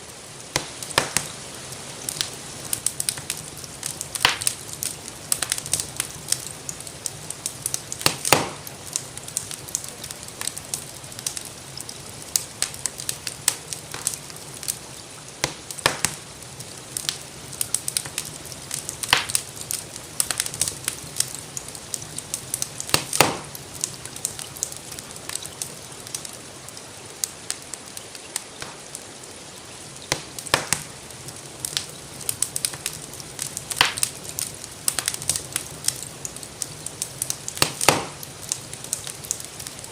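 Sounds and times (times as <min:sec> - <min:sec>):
gentle rainfall: 0:00.0 - 0:39.9
wood fire crackling: 0:00.0 - 0:39.9.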